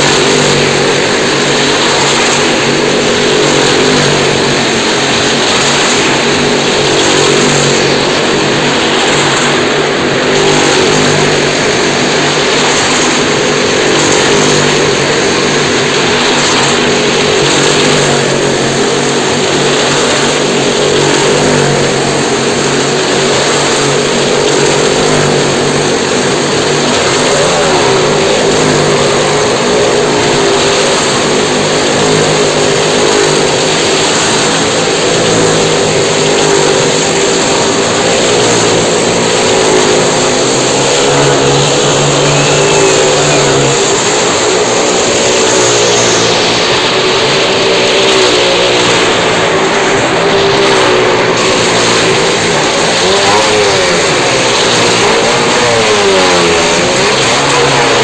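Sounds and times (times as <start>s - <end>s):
motorcycle and car engines droning: 0.0s - 58.0s.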